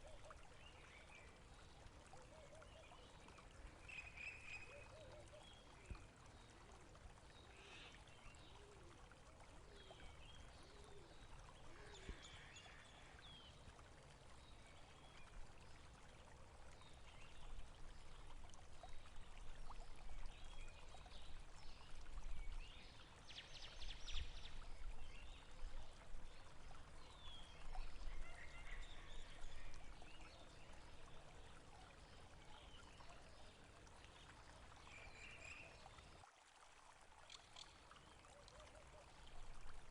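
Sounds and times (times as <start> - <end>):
faint moving water: 0.0 - 39.9.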